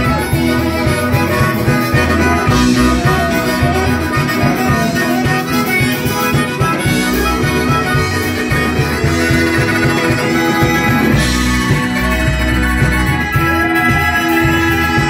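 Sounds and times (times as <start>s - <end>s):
harmonica melody: 0.0s - 15.0s
live band playing: 0.0s - 15.0s.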